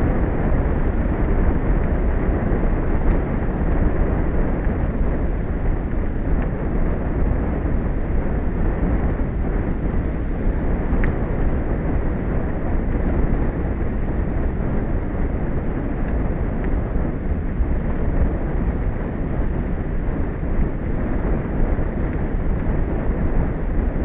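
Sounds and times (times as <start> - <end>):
sea: 0.0 - 24.0
wind: 0.0 - 24.0.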